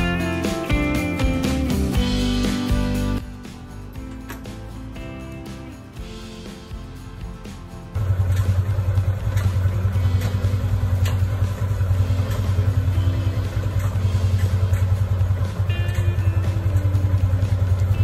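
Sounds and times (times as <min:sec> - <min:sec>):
background music with pulsing beat: 0:00.0 - 0:18.0.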